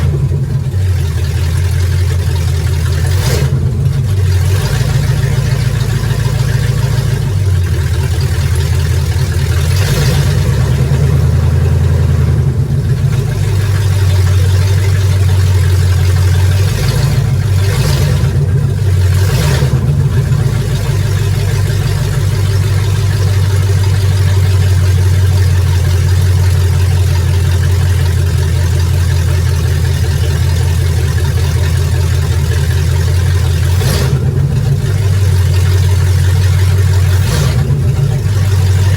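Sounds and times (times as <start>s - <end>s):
truck engine idling loudly: 0.0s - 38.9s.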